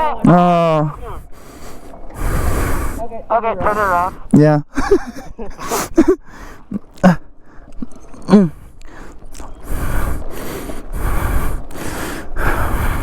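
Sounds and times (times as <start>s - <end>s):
person gasping: 0.2s - 4.3s, 5.6s - 13.0s
person breathing heavily: 0.3s - 4.4s, 5.5s - 13.0s.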